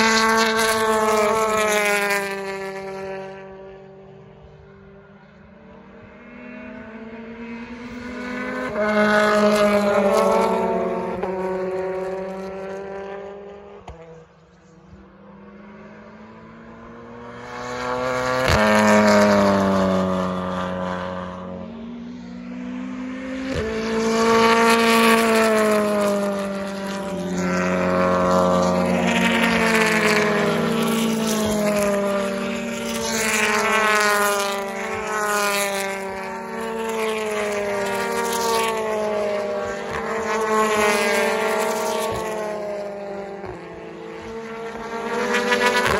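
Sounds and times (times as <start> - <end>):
racing cars passing at speed: 0.0 - 45.9.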